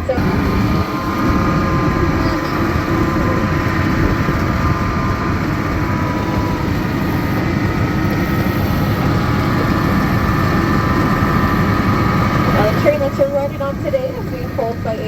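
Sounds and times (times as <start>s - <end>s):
miniature train rumbling: 0.0s - 15.0s.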